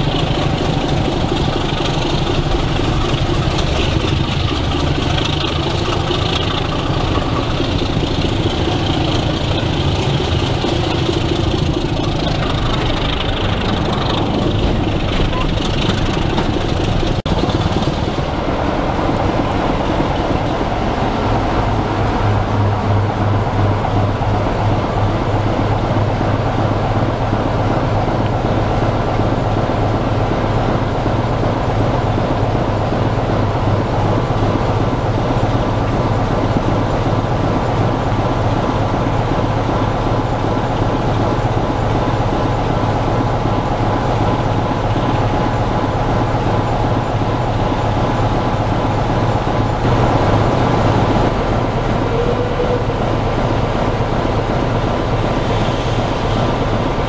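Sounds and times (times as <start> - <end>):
locomotive diesel engine idling: 0.0 - 57.0.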